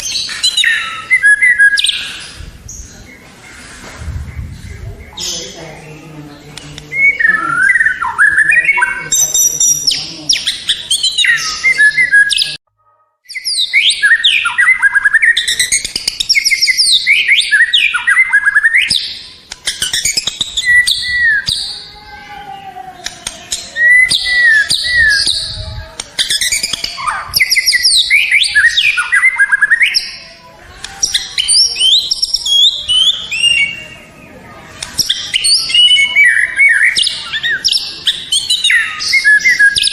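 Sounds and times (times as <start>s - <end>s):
songbird whistling and trilling: 0.0s - 2.9s, 6.9s - 12.6s, 13.3s - 21.9s, 23.5s - 30.2s, 31.0s - 34.0s, 34.9s - 39.9s.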